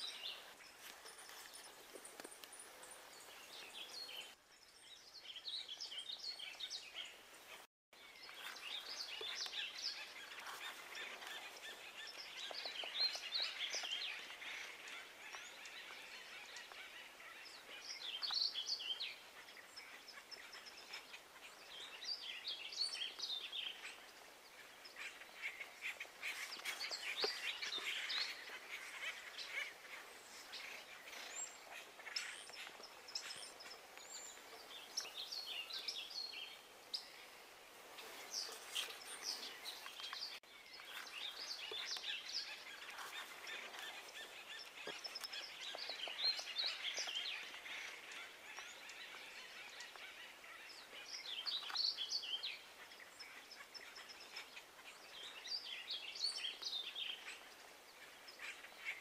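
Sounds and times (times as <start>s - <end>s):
faint outdoor background noise: 0.0s - 59.0s
small birds chirping: 0.0s - 59.0s.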